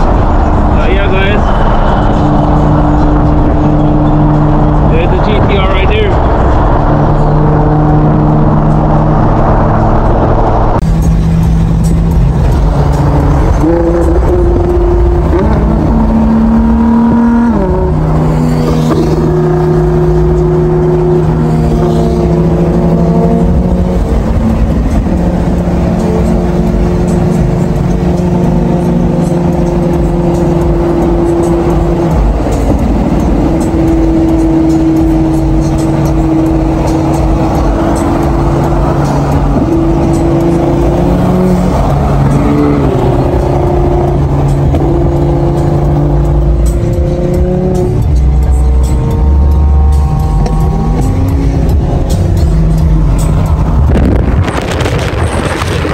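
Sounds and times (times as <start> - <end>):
car road and engine noise: 0.0 - 55.9
music with long low notes: 0.0 - 55.9.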